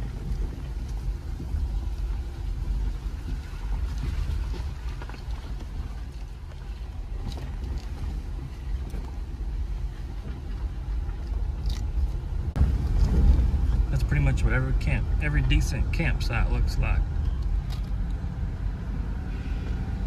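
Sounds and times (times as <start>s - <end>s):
engine and tyres rumbling on gravel: 0.0s - 20.0s.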